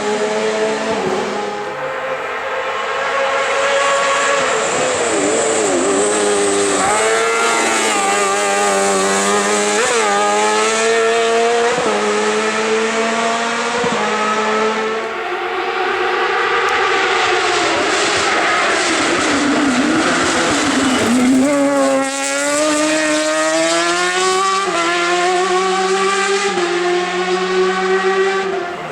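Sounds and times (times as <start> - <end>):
race car engine revving: 0.0 - 28.9.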